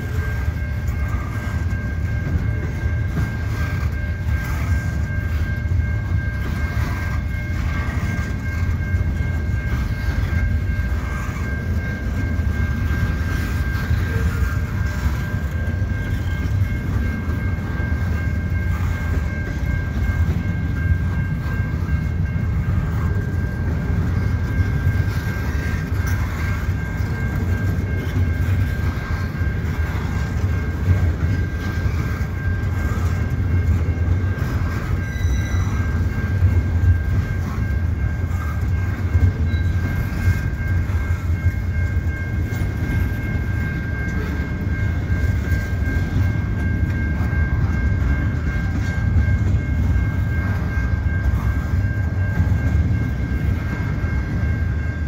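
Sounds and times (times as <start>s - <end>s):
freight train wheels rumbling: 0.0s - 55.0s
level crossing bell ringing: 0.0s - 55.0s
wheels clicking over rail joints: 0.0s - 55.0s.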